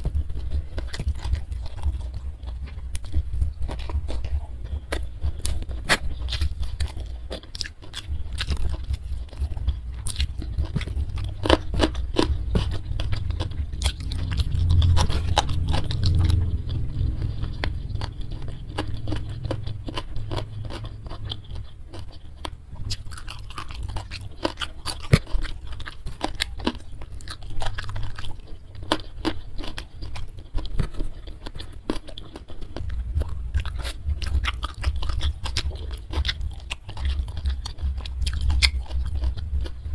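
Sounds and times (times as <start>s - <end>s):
chewing with wet mouth clicks: 0.0s - 39.9s
crunching: 0.0s - 39.9s.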